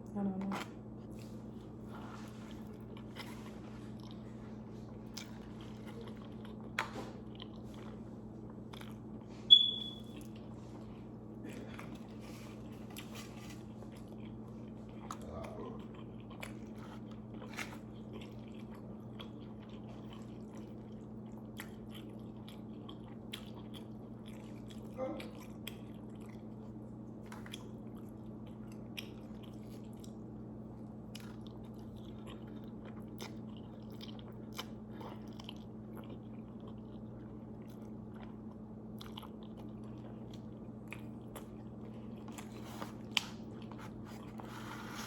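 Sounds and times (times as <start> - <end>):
chewing food: 0.4 - 45.0.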